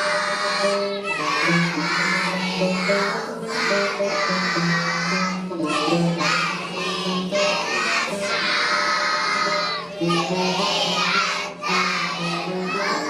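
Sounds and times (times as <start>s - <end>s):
children singing: 0.0s - 13.0s
music backing track: 0.0s - 13.0s.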